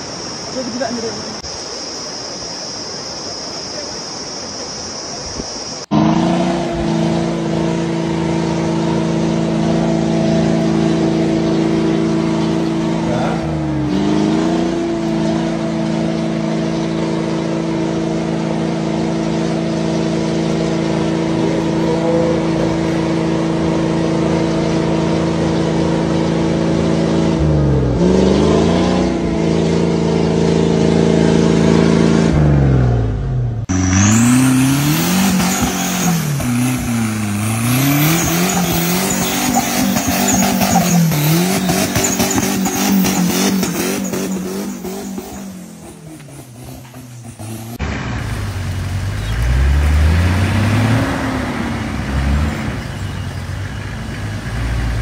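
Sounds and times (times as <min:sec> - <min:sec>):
truck engine droning: 0:05.8 - 0:55.0.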